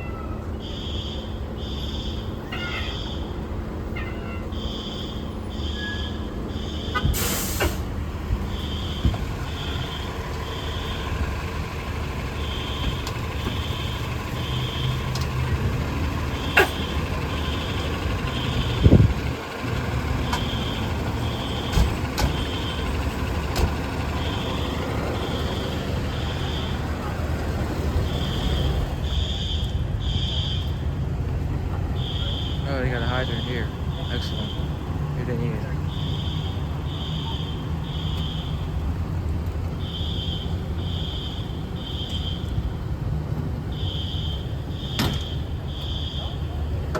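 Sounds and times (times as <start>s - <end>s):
fire engine diesel idling: 0.3s - 46.9s
fire alarm beeps: 0.5s - 7.6s, 8.4s - 31.0s, 31.9s - 38.8s, 39.7s - 43.0s, 43.7s - 46.8s.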